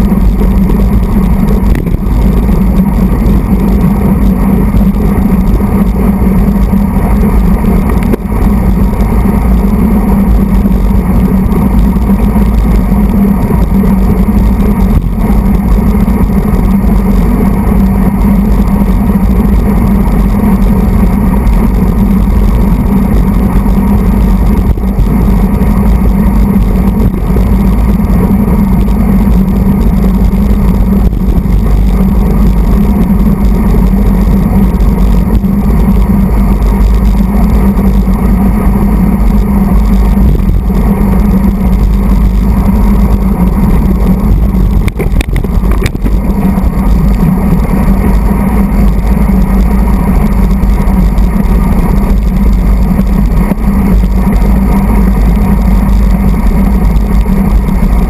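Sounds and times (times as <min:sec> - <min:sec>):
bicycle tyre noise on road: 0:00.0 - 0:58.0
wind buffeting microphone: 0:00.0 - 0:58.0.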